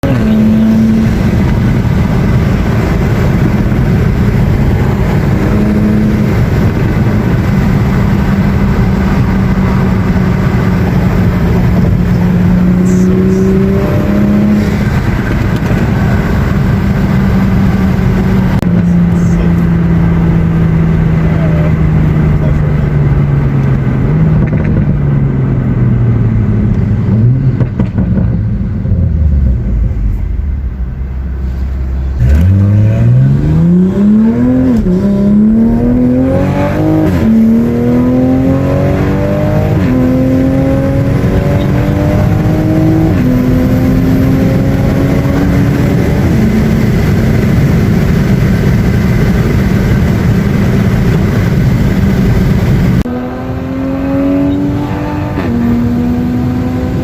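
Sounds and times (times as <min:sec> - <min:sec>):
car engine drone from inside cabin: 0:00.0 - 0:57.0.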